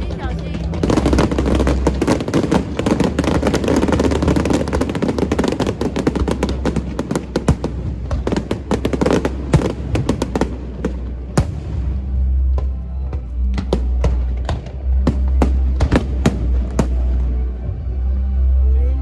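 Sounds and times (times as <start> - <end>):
fireworks bangs: 0.0 - 12.7, 13.5 - 17.3
fireworks bursting and crackling: 0.0 - 17.4.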